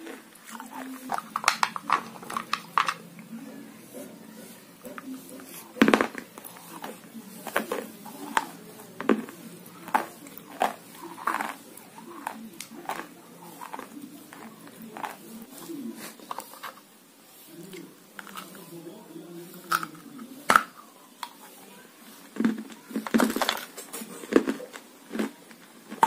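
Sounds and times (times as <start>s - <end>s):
crunchy chewing: 0.0s - 3.3s, 4.0s - 16.9s, 17.6s - 18.8s, 19.4s - 26.0s.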